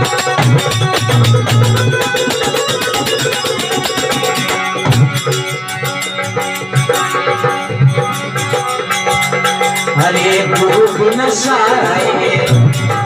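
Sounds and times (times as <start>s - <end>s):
hand drum and percussion rhythm: 0.0s - 13.0s
sustained melody notes: 0.0s - 13.0s.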